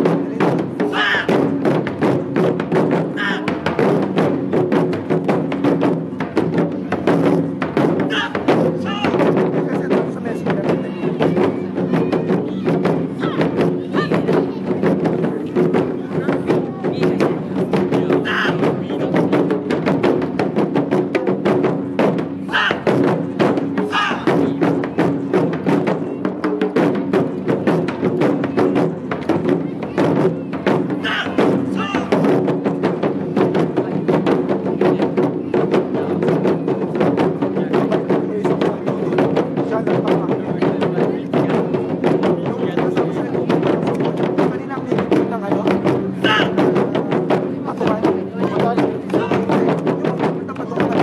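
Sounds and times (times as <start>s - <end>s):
drum ensemble playing fast rhythm: 0.0s - 51.0s
drummers shouting: 0.0s - 51.0s.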